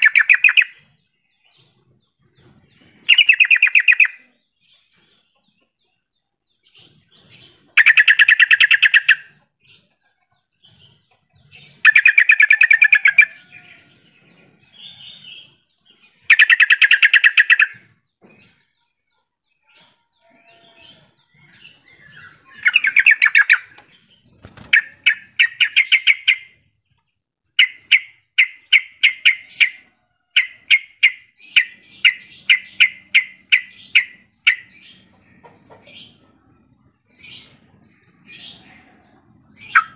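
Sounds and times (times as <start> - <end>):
bird singing chattering notes: 0.0 - 5.7, 6.6 - 10.0, 10.6 - 39.9.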